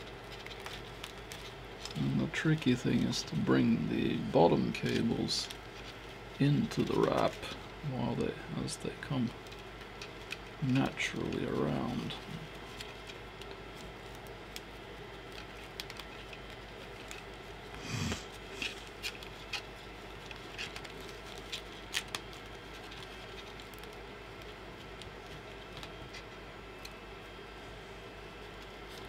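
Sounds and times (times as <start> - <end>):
cable sleeve rustling and clicking: 0.0 - 29.0
faint steady hum: 0.0 - 29.0.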